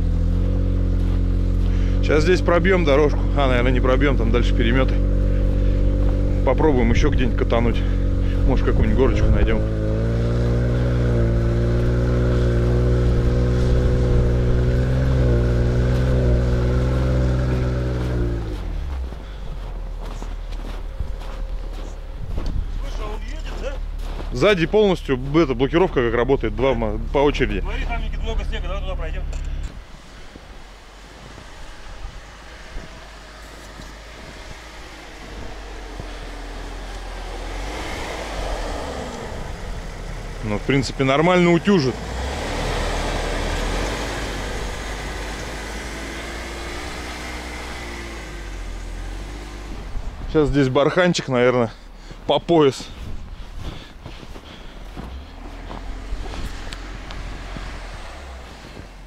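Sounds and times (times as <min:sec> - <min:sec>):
car engine running under load: 0:00.0 - 0:59.0.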